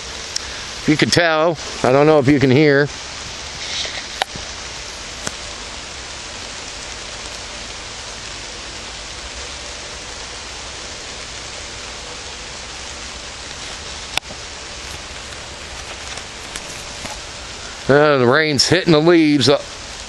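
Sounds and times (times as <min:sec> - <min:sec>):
light rain on leaves: 0:00.0 - 0:20.0.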